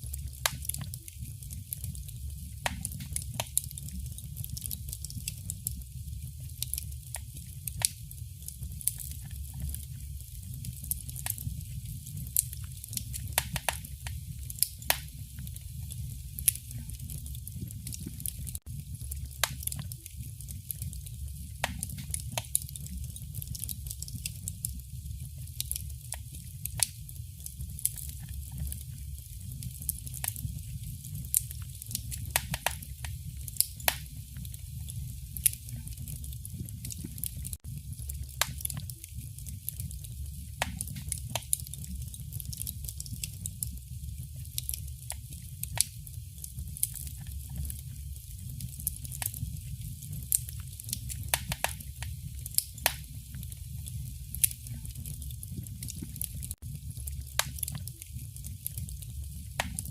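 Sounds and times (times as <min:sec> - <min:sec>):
fire crackling in fireplace: 0:00.0 - 0:59.9
low rumble of flame: 0:00.0 - 0:59.9.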